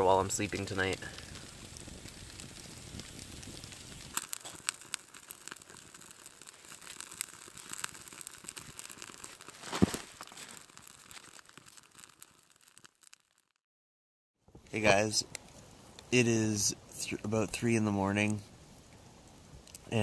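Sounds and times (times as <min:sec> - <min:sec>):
campfire crackling and popping: 0:00.0 - 0:13.6, 0:14.5 - 0:20.0.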